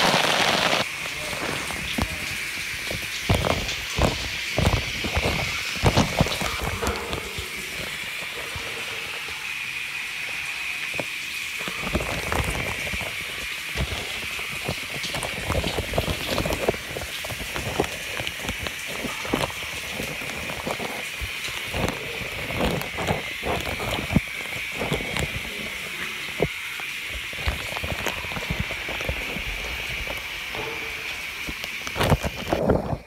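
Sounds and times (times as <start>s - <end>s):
shower water spraying: 0.0s - 33.0s
water tapping and knocking: 0.7s - 33.0s.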